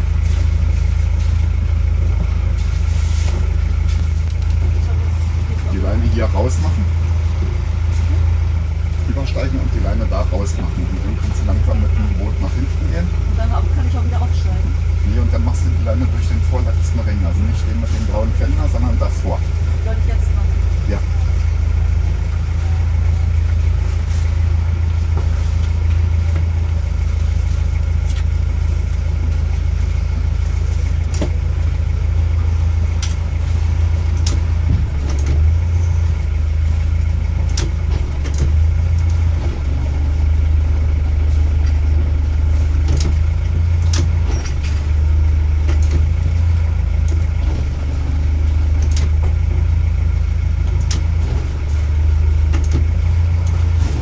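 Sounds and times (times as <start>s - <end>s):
boat engine running at low revs: 0.0s - 54.0s.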